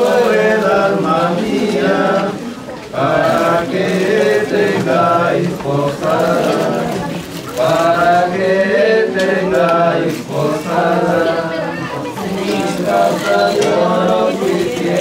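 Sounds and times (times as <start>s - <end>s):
voices chanting: 0.0s - 15.0s.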